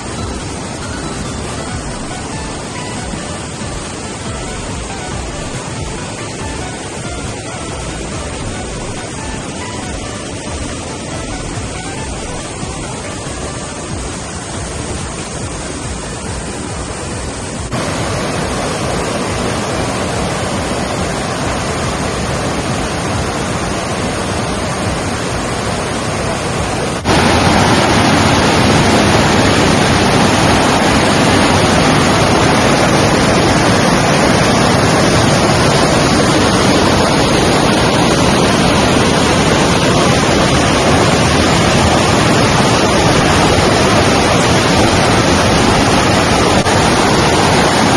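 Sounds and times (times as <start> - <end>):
flowing river water: 0.0 - 47.9.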